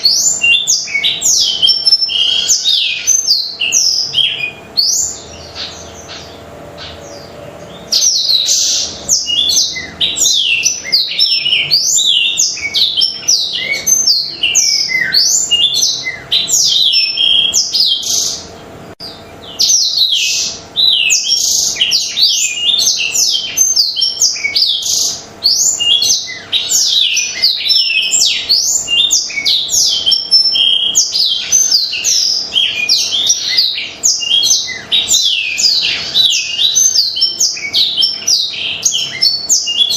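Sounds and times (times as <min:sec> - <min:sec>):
canary warbling song: 0:00.0 - 0:39.9.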